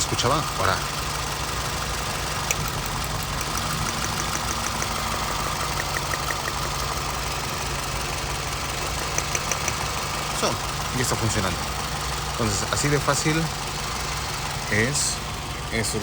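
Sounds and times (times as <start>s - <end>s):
faint ignition ticks: 0.0s - 15.7s
car engine idling: 0.0s - 16.0s.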